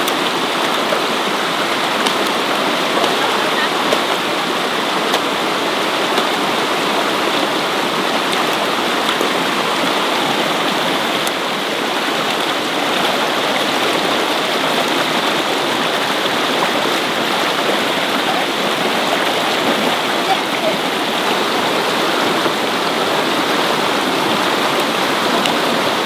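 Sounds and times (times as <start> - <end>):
water rushing: 0.0 - 26.0.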